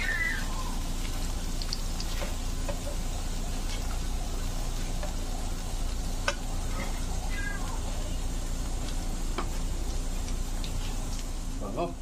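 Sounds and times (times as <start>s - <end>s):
deep-frying sizzle: 0.0s - 12.0s.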